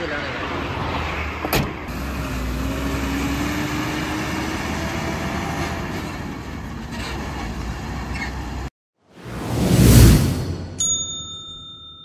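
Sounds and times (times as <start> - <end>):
road traffic rumble: 0.0 - 10.8.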